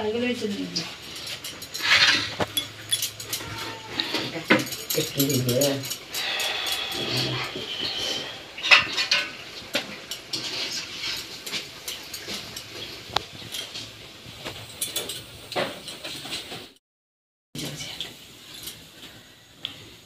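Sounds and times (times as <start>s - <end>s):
metal pots clinking and scraping: 0.0s - 16.7s.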